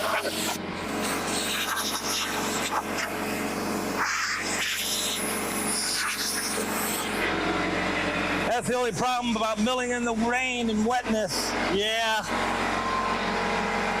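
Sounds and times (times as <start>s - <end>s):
sawmill gas engine running: 0.0s - 14.0s.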